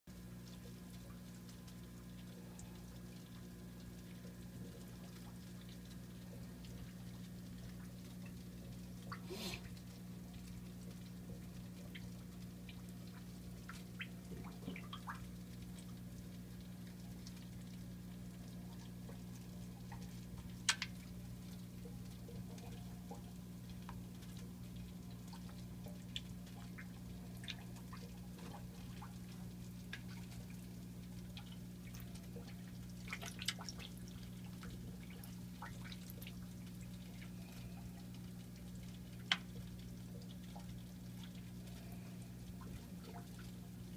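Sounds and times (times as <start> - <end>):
small water drips and splashes: 0.1 - 43.9
steady low hum: 0.1 - 43.9.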